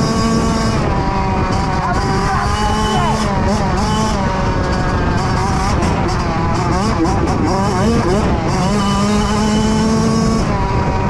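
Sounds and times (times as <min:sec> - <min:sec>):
dirt bike engine revving: 0:00.0 - 0:11.0
wind rumble on microphone: 0:00.0 - 0:11.0.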